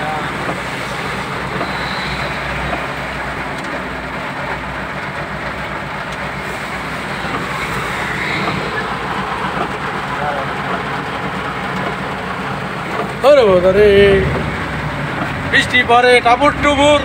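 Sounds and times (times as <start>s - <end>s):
heavy rain on vehicle roof: 0.0s - 17.0s
vehicle engine hum: 0.0s - 17.0s.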